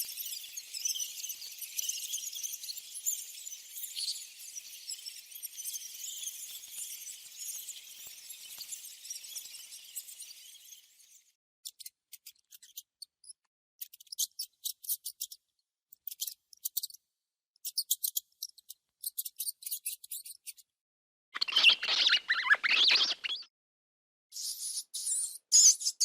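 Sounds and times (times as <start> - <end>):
mouse squeaking: 0.1 - 10.8, 11.6 - 15.4, 16.0 - 17.0, 17.6 - 20.7, 21.4 - 23.5, 24.4 - 26.0.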